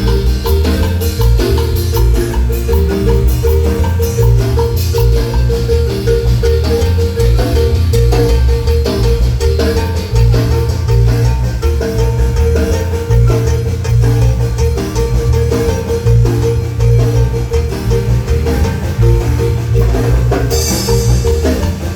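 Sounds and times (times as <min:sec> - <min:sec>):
heavy steady bass line: 0:00.0 - 0:21.9
marimba notes: 0:00.0 - 0:21.9.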